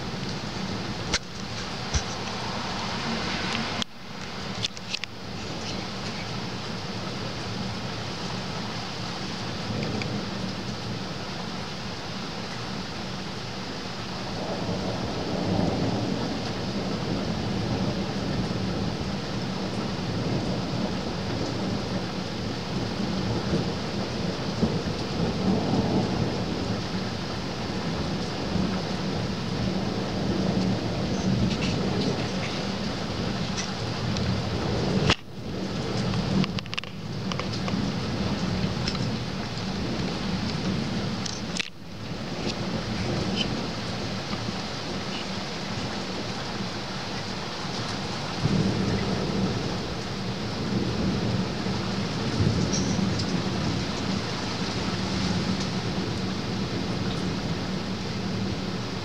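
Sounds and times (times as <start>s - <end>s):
thunder rumbling: 0.0s - 11.9s, 13.2s - 59.0s
steady hiss: 0.0s - 59.0s.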